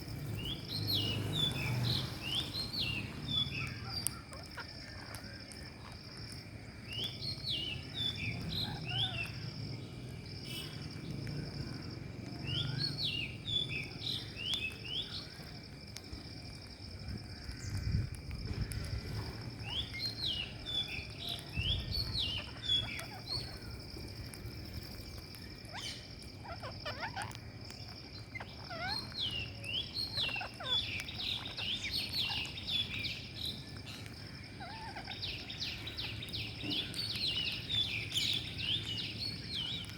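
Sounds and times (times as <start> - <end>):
parakeets calling: 0.0 - 6.3, 7.0 - 9.6, 10.6 - 15.5, 18.5 - 39.9.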